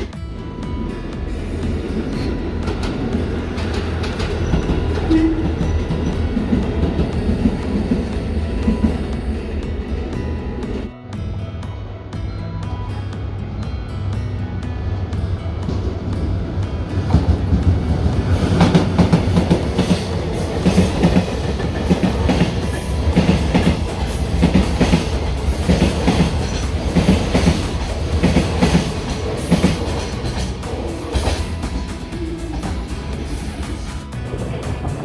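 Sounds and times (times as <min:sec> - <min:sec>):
train wheels clacking on rail joints: 0:00.0 - 0:10.9, 0:14.6 - 0:35.0
low train rumble: 0:00.0 - 0:35.0.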